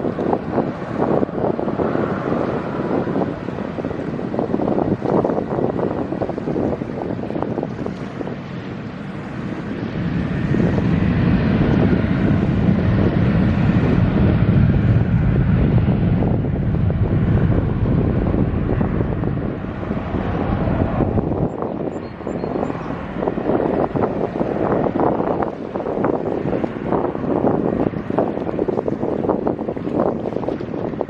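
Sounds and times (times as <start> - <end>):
jet engines rumbling: 0.0 - 31.0
wind buffeting microphone: 0.0 - 31.0.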